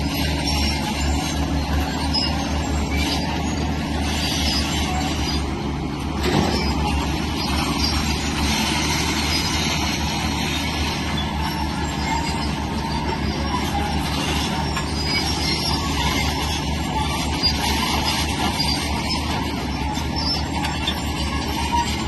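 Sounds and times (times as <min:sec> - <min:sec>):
heavy diesel machinery drone: 0:00.0 - 0:22.0.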